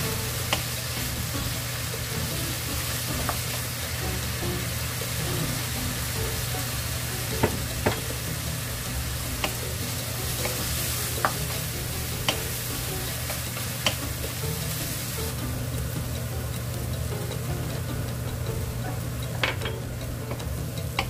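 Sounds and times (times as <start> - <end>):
root strips sizzling in oil: 0.0 - 21.0
spatula tapping against pan: 0.0 - 21.0
wooden spatula stirring: 0.0 - 21.0.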